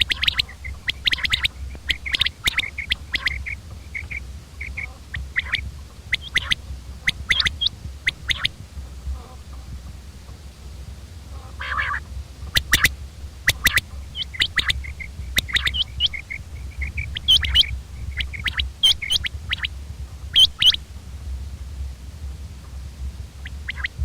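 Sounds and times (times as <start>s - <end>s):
quail calling: 0.0s - 10.5s, 11.3s - 21.0s, 22.6s - 24.0s
steady low hum: 0.0s - 24.0s.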